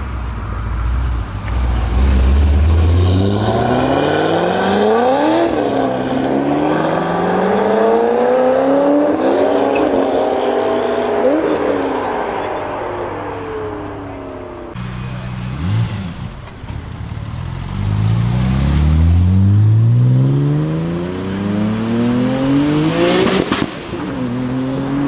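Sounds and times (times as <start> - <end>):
car accelerating hard: 0.1 - 25.0.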